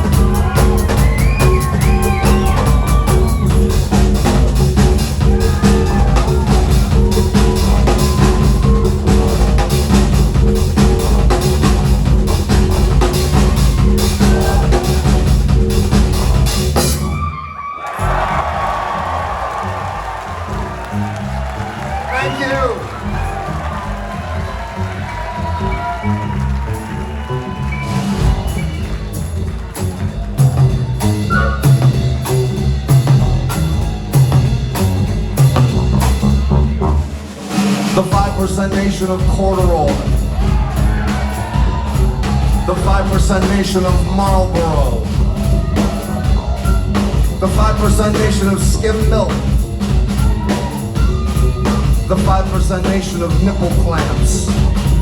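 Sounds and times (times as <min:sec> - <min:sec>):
drum kit beat: 0:00.0 - 0:17.2, 0:17.9 - 0:55.0
live rock band playing: 0:00.0 - 0:18.6, 0:20.8 - 0:55.0
bass line: 0:00.0 - 0:55.0.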